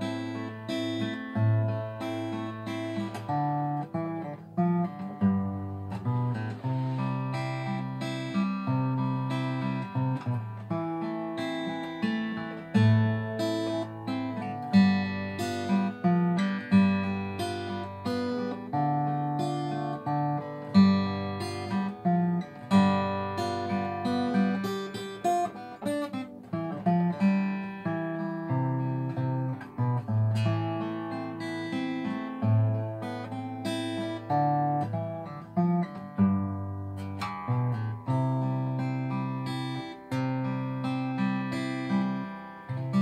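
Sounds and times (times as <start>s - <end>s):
acoustic guitar waltz: 0.0s - 43.0s.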